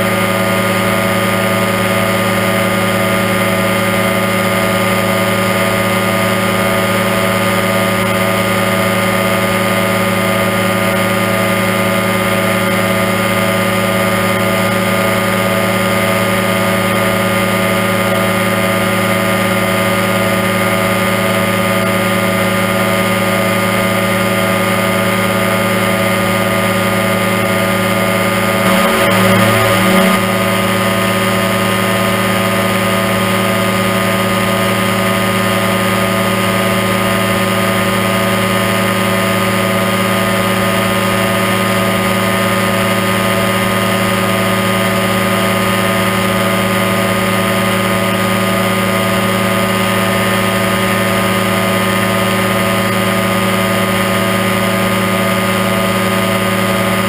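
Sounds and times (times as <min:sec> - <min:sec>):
microlight engine drone: 0:00.0 - 0:57.0.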